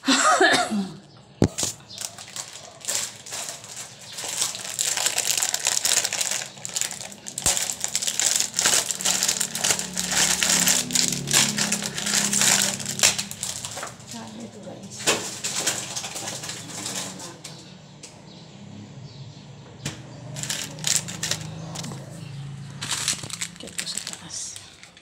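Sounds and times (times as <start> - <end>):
plastic wrapper crinkling: 1.4 - 17.5, 20.4 - 22.2, 22.8 - 25.0.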